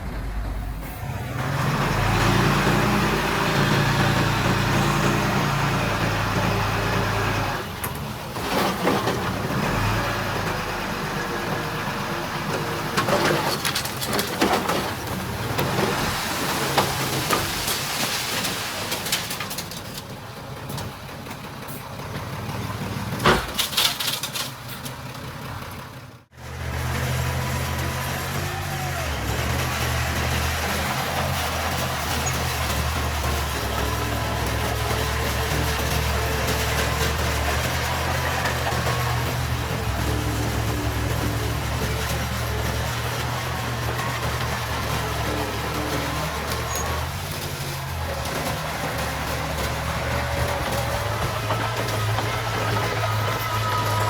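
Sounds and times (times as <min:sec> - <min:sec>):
diesel engine droning: 0:00.0 - 0:18.9, 0:24.9 - 0:54.0
machinery clanking and rattling: 0:00.0 - 0:54.0.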